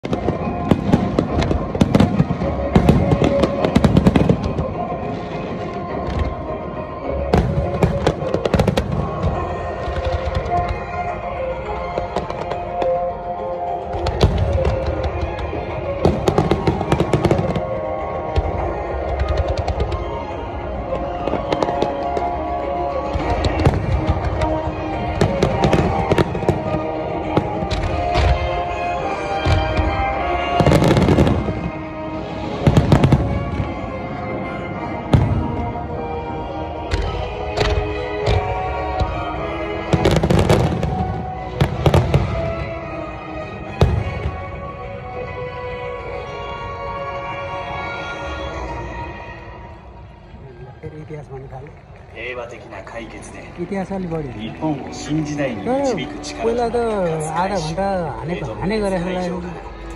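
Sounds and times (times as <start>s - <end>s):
fireworks bangs and crackles: 0.0s - 49.0s, 51.0s - 59.9s
music playing: 0.0s - 59.9s.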